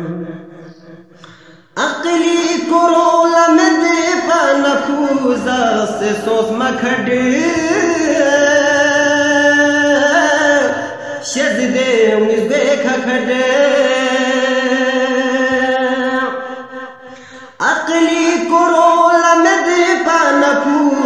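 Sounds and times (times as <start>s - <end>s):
man singing unaccompanied: 0.0s - 0.9s, 1.7s - 21.0s.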